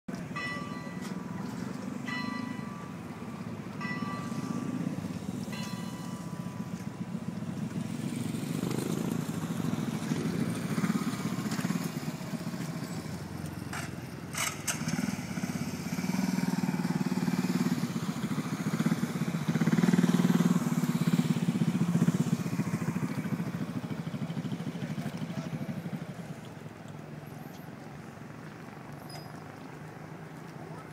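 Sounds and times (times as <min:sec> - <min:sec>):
engine rumbling: 0:00.1 - 0:30.9.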